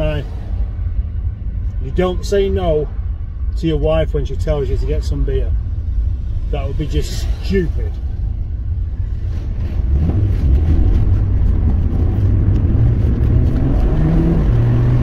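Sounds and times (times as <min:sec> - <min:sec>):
car engine from inside cabin: 0:00.0 - 0:15.0
road noise: 0:00.0 - 0:15.0.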